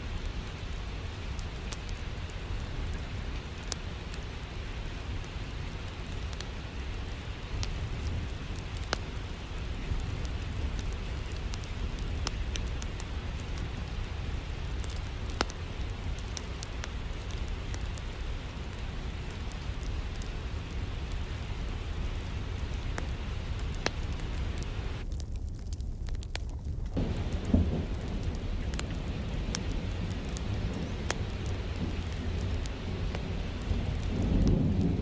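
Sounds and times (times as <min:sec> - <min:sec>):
rain hissing: 0:00.0 - 0:25.1, 0:27.0 - 0:35.0
wood fire crackling: 0:00.0 - 0:35.0.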